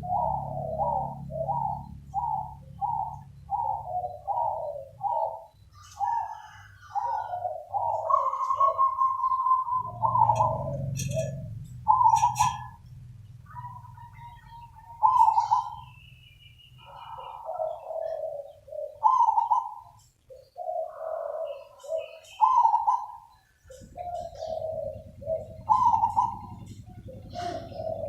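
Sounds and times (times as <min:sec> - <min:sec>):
dove cooing: 0:00.0 - 0:28.0
faint high bird chirps: 0:00.0 - 0:28.0.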